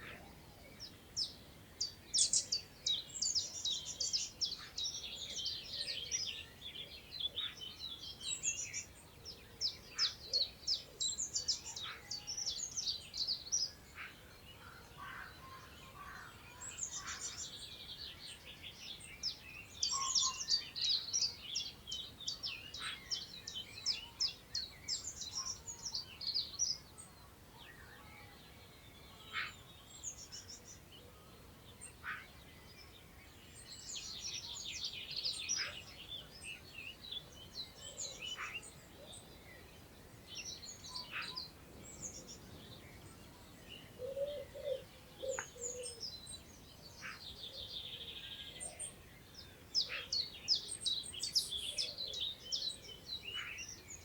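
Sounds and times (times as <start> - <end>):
faint wind through grass: 0.0 - 54.0
songbirds singing and chirping: 0.0 - 54.0.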